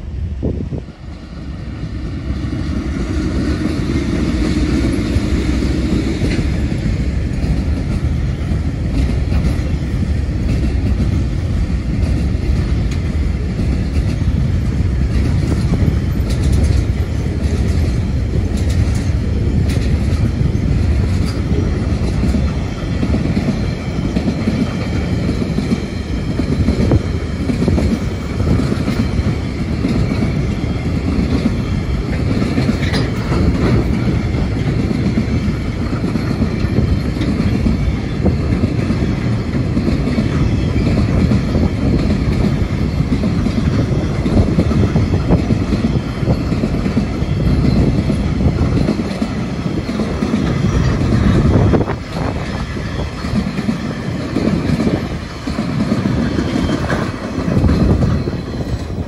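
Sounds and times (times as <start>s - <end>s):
diesel locomotive engines running: 0.0s - 59.0s
wagons rumbling and clattering: 3.4s - 59.0s.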